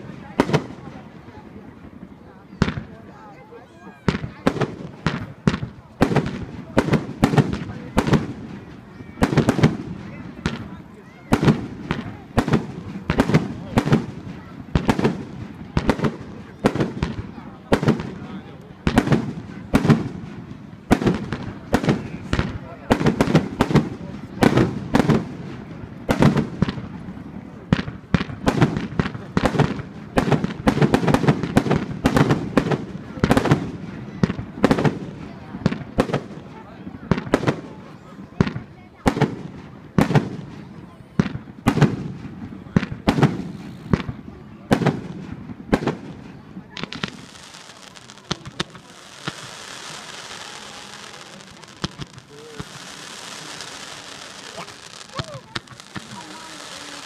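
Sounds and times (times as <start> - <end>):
fireworks bangs and cracks: 0.0 - 57.0.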